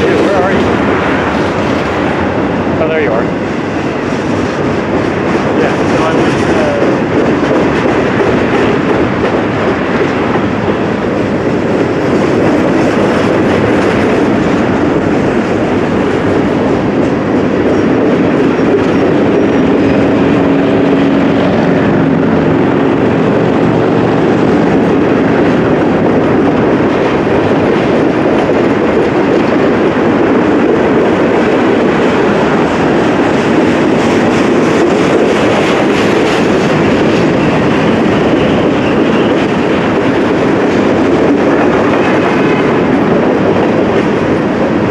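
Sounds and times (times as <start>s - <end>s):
freight train wheels on rail: 0.0s - 44.9s.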